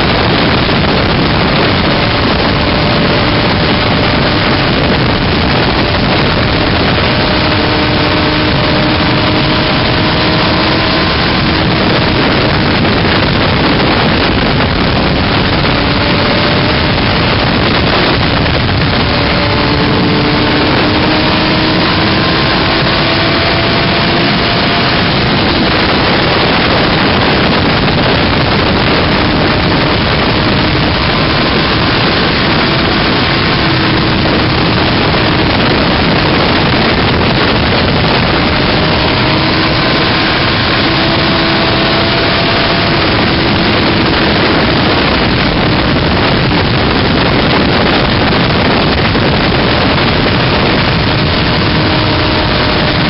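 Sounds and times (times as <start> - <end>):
motorcycle engine: 0.0 - 53.0
wind rush on microphone: 0.0 - 53.0.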